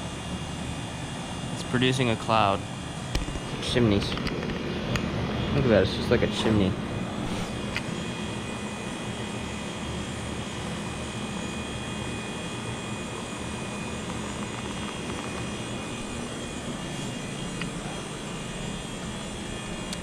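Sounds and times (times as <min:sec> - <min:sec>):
heat pump compressor hum: 0:00.0 - 0:20.0.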